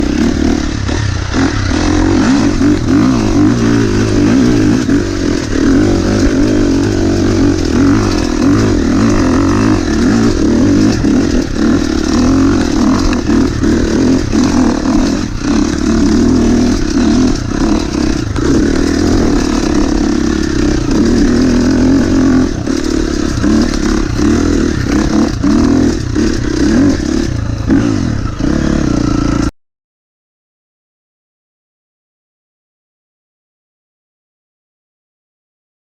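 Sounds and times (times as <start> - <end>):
dirt bike engine under load: 0.0 - 29.5
bike clattering over rough trail: 0.1 - 29.5.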